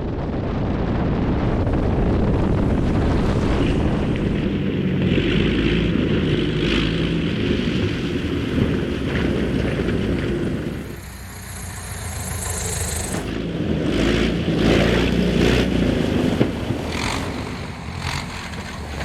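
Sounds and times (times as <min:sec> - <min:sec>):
propeller airplane engine running: 0:00.0 - 0:19.0.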